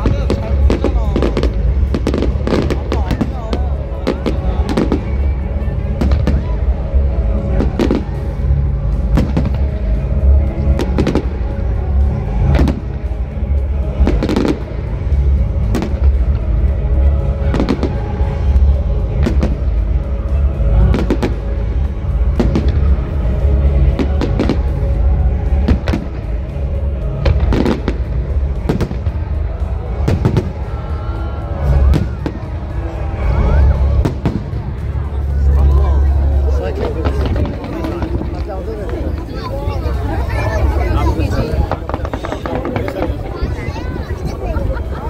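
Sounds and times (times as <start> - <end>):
fireworks bursting: 0.0 - 45.0
low rumble: 0.0 - 45.0
music with heavy bass: 0.0 - 45.0.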